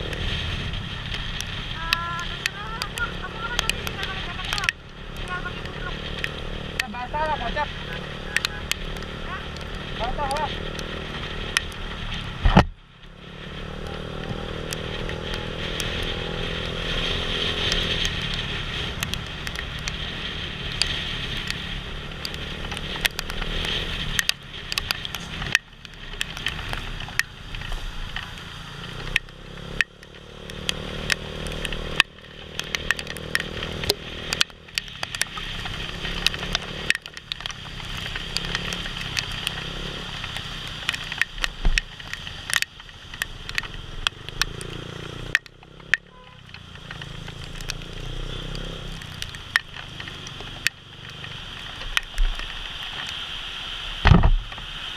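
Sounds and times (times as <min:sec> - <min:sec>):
small motorcycle engine revving: 0:00.0 - 0:12.4, 0:13.1 - 0:25.6, 0:26.2 - 0:51.8
rain ticking on camera: 0:00.0 - 0:54.9.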